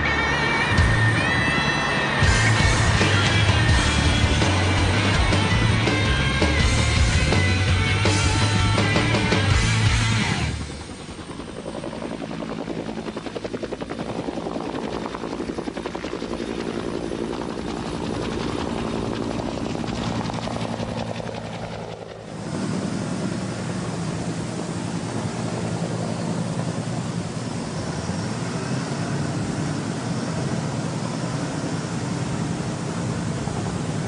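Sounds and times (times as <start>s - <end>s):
helicopter rotor beating: 0.0s - 34.0s
turbine whine: 0.0s - 34.0s.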